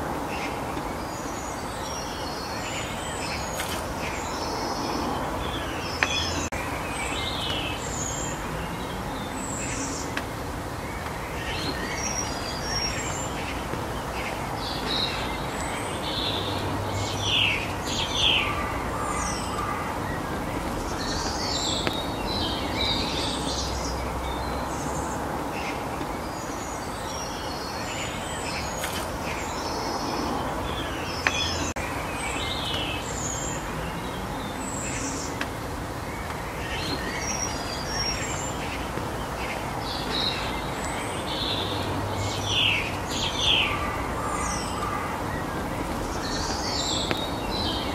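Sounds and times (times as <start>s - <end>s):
outdoor background hiss: 0.0s - 47.9s
small birds chirping: 0.0s - 47.9s.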